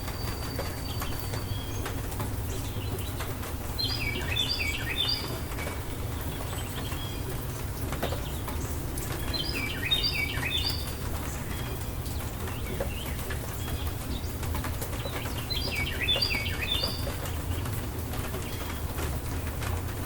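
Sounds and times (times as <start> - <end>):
rain: 0.0 - 20.0
songbird singing: 0.0 - 20.0.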